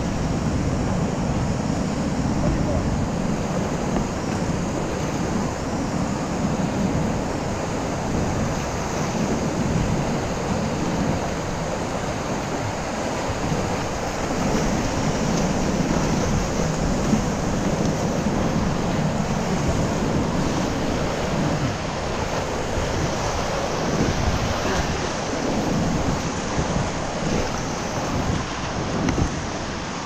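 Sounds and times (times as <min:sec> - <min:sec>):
whitewater rushing: 0:00.0 - 0:30.0
wind on microphone: 0:00.0 - 0:30.0.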